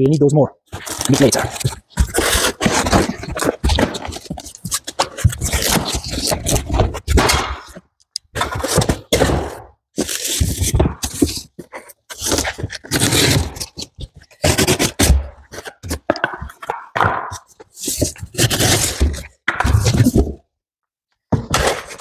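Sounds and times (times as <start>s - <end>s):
cardboard and foam scraping and rustling: 0.7s - 7.8s, 8.4s - 16.8s, 17.4s - 20.4s, 21.4s - 22.0s.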